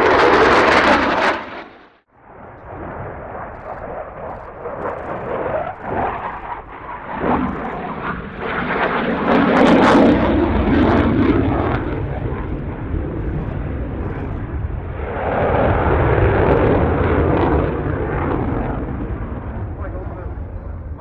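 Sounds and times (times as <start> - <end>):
jet afterburner roar: 0.0 - 21.0.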